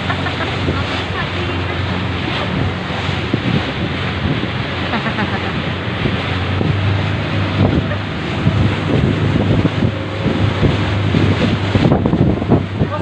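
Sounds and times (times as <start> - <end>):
boat engine running: 0.0 - 13.0
rushing water: 0.0 - 13.0
wind buffeting microphone: 0.0 - 13.0.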